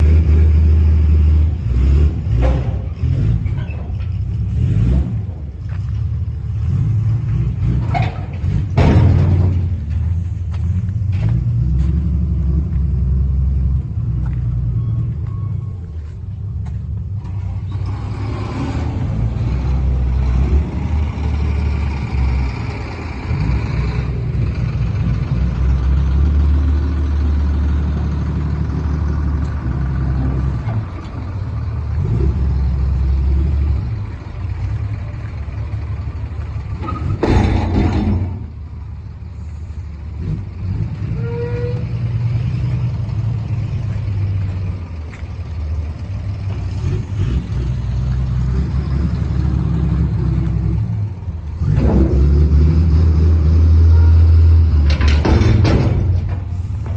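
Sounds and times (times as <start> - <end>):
diesel truck engine rumbling: 0.0 - 56.9.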